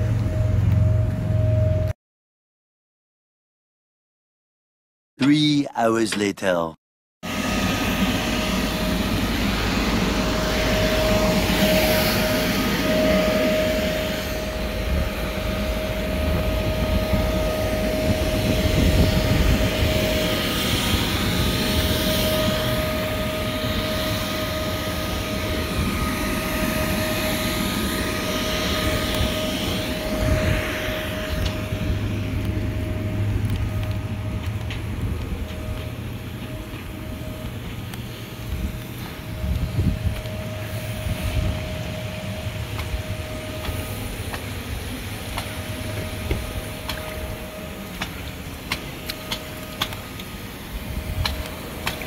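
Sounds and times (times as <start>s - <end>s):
electric blower motor drone: 7.2s - 52.0s.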